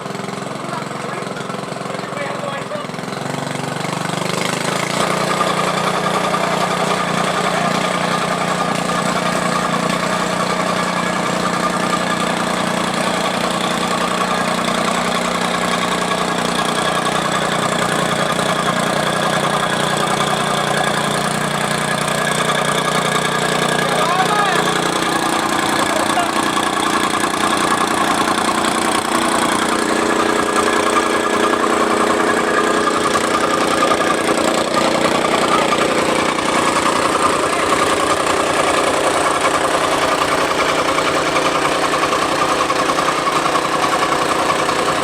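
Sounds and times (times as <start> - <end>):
compactor engine running: 0.0 - 45.0.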